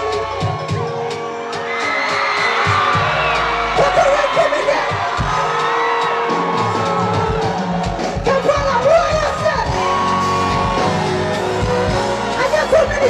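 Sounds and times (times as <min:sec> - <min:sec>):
live band music over loudspeakers: 0:00.0 - 0:13.0
people shouting: 0:00.0 - 0:13.0.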